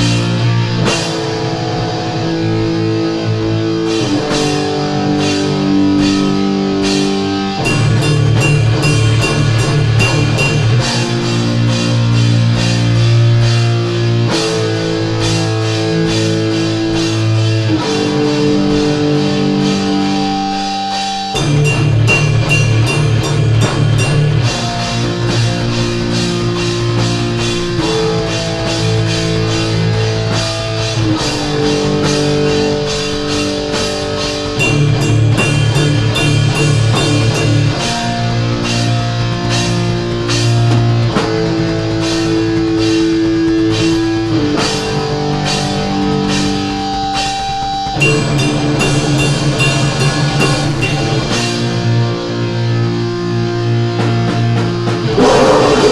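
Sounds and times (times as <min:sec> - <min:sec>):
distorted electric guitar chords: 0:00.0 - 0:55.9
rapid drumming: 0:00.0 - 0:55.9.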